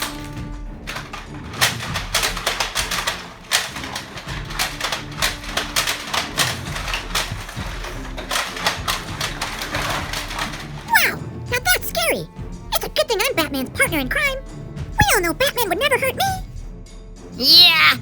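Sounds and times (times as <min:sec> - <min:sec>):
plastic toy parts clicking: 0:00.0 - 0:14.4, 0:15.0 - 0:16.4
quiet background music: 0:00.0 - 0:18.0.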